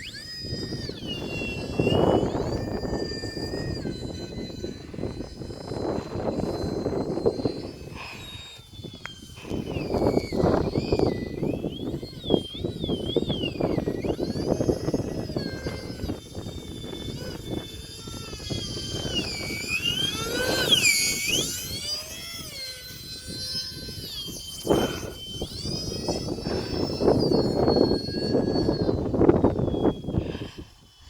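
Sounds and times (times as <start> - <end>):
electric ducted fans whining: 0.0 - 31.0
wind buffeting on microphone: 0.0 - 31.0.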